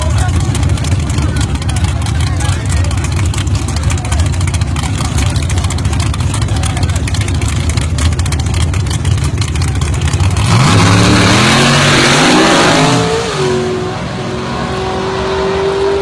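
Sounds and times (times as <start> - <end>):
drag car engine revving: 0.0 - 16.0.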